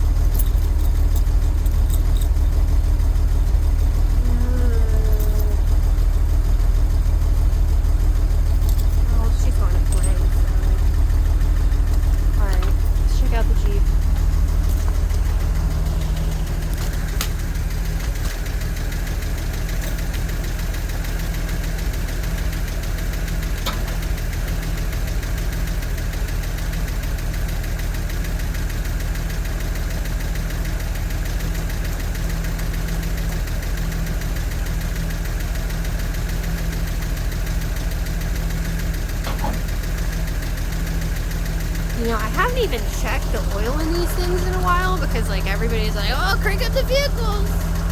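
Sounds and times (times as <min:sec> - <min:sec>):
engine idling with a tick: 0:00.0 - 0:04.3, 0:04.9 - 0:45.7.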